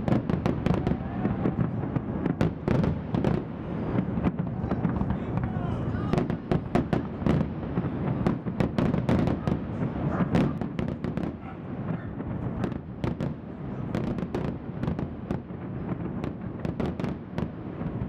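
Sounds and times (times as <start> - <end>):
continuous rumble: 0.0 - 18.0
fireworks bangs: 0.0 - 18.0.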